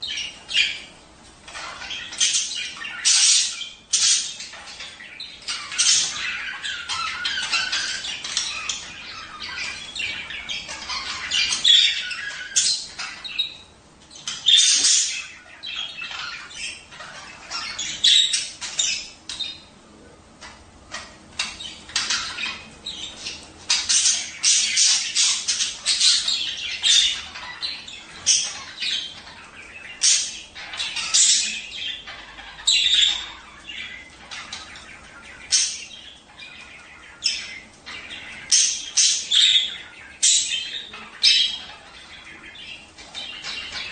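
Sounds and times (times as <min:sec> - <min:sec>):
budgerigars chattering and squawking: 0:00.0 - 0:43.9.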